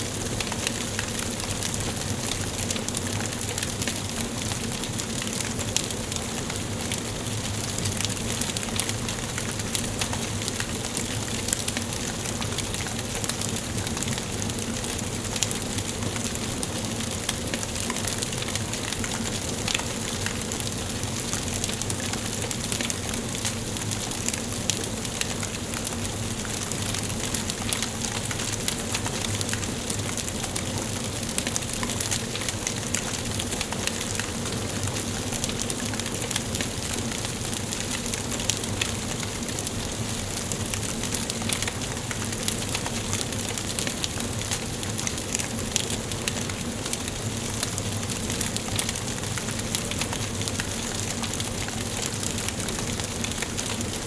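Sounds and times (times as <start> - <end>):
wood fire crackling and hissing: 0.0 - 54.0.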